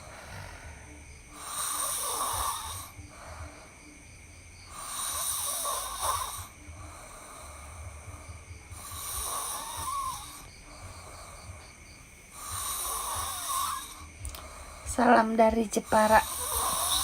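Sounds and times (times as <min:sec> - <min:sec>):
person snoring: 0:00.0 - 0:04.0, 0:04.6 - 0:14.9, 0:15.9 - 0:17.0.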